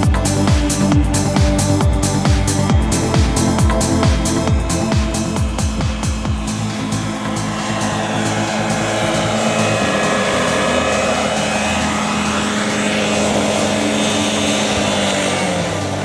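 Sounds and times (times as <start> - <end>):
model helicopter engine and rotor: 0.0 - 16.0.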